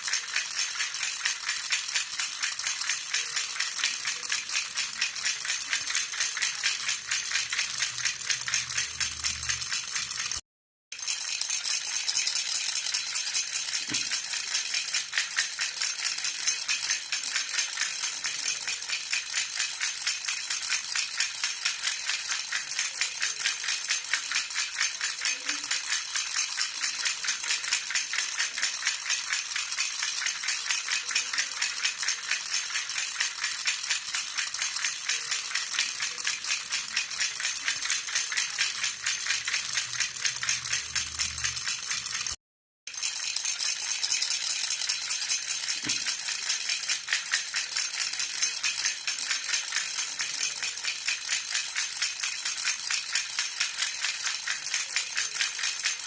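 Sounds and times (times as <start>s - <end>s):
metal baby rattle jingling: 0.0s - 10.4s, 11.0s - 56.0s.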